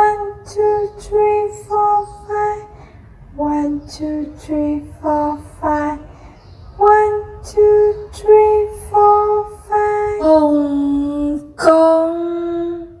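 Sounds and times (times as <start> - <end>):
woman singing: 0.0 - 6.1, 6.8 - 13.0.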